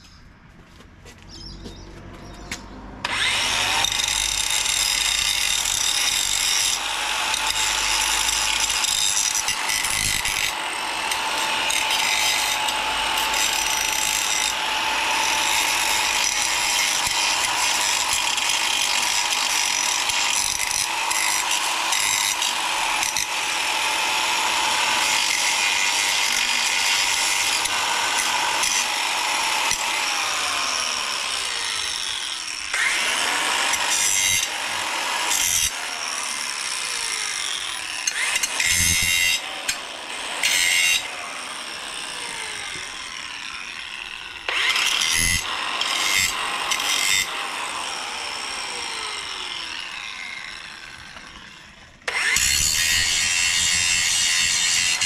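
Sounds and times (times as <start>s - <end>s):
angle grinder motor whine: 2.4s - 55.0s.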